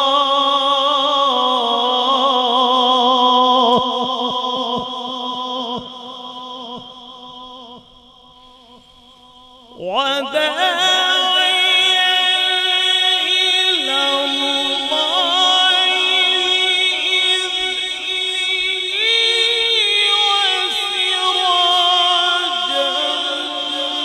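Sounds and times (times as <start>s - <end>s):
man reciting melodically: 0.0s - 24.0s.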